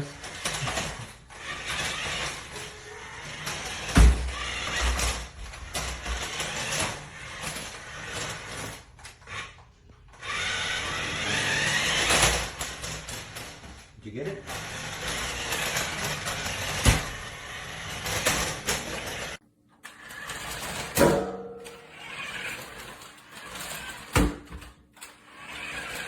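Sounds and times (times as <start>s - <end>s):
toy truck motor whirring: 0.0s - 21.0s, 21.7s - 26.0s.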